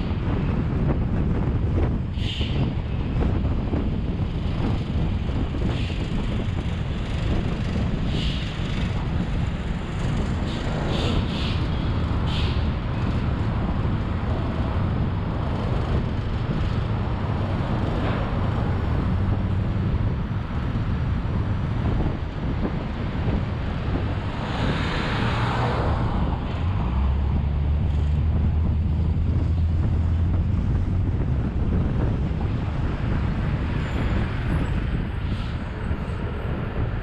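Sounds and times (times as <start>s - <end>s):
road traffic noise: 0.0s - 37.0s
wind buffeting microphone: 0.0s - 37.0s.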